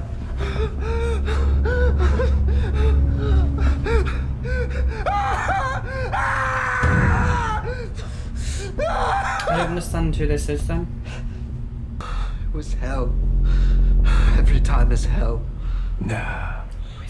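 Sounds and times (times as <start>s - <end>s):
low rumbling drone: 0.0s - 17.0s.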